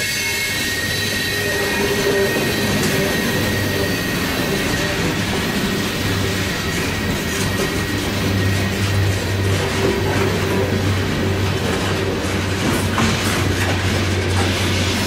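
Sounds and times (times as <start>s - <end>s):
freight train wheels rumbling on rails: 0.0s - 15.0s
high wheel squeal: 0.0s - 15.0s.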